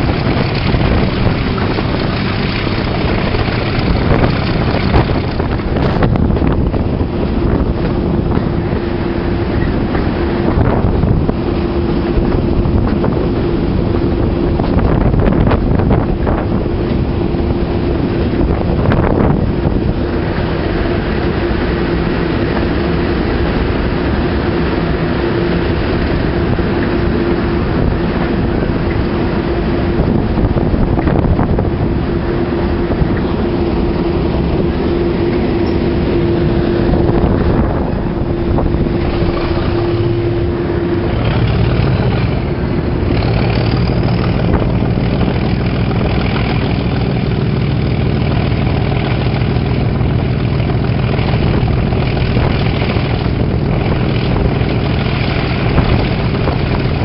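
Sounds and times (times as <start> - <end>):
diesel locomotive engine: 0.0 - 57.0
steady droning tone: 0.0 - 57.0
wind buffeting microphone: 0.0 - 57.0.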